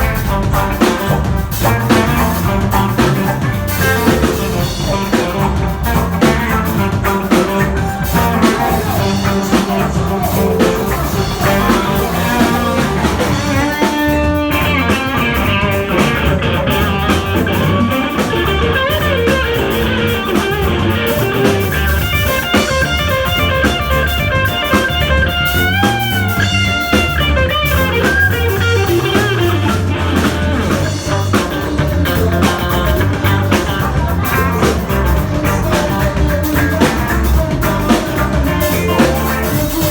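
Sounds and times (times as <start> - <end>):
high lead melody: 0.0 - 39.9
ska band music: 0.0 - 39.9.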